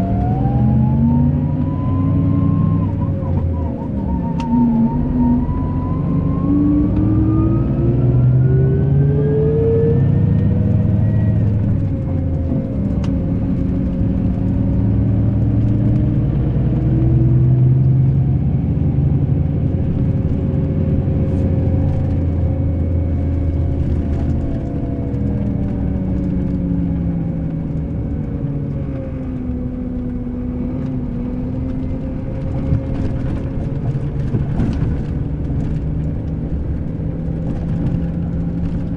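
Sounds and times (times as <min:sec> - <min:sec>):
engine whine: 0:00.0 - 0:38.9.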